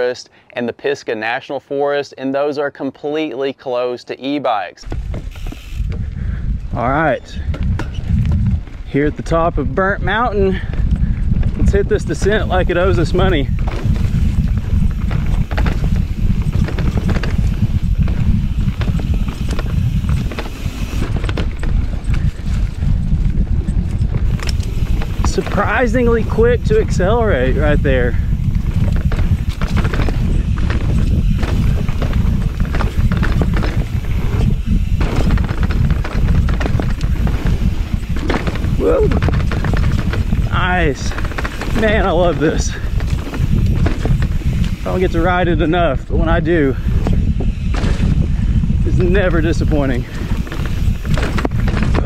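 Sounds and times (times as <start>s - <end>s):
bike clicks and rattles: 4.8s - 52.0s
bike tyres on dirt: 4.8s - 52.0s
wind rumbling on microphone: 4.8s - 52.0s.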